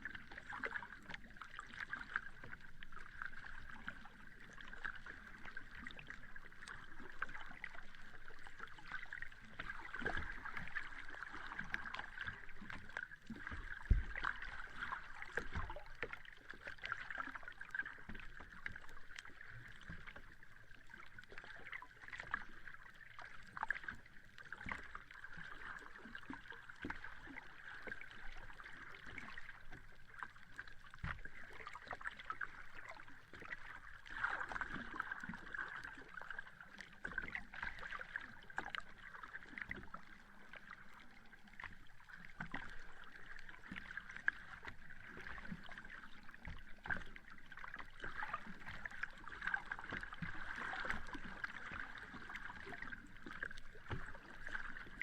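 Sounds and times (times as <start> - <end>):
sea water lapping at shore: 0.0 - 55.0.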